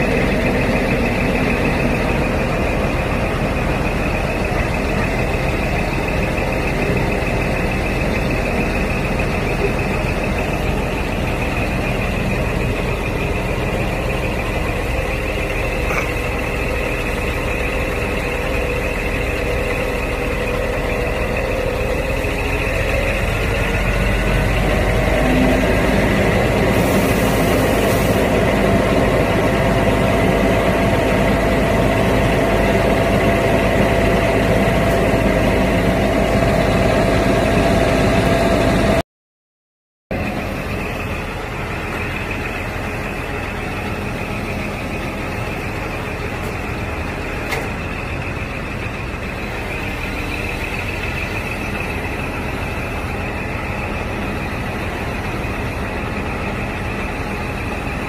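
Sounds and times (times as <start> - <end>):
diesel engine running: 0.0 - 39.0, 40.1 - 58.0.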